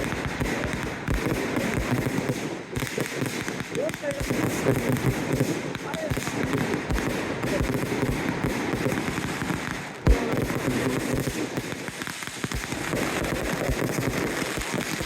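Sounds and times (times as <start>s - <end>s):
fireworks booms: 0.0s - 15.0s
fireworks crackling: 0.0s - 15.0s.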